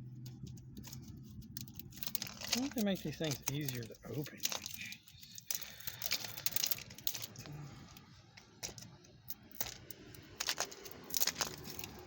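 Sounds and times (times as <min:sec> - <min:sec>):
toy packaging being handled: 0:00.2 - 0:12.0.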